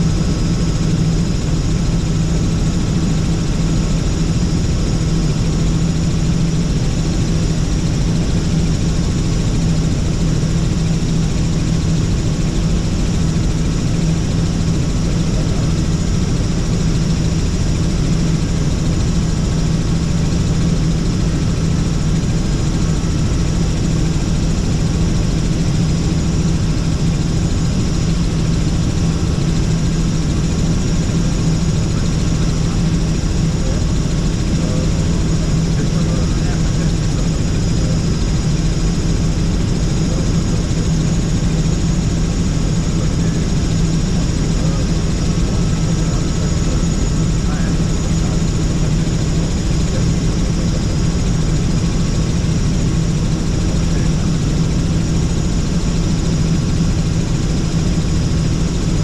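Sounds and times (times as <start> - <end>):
helicopter cabin noise: 0.0 - 59.0.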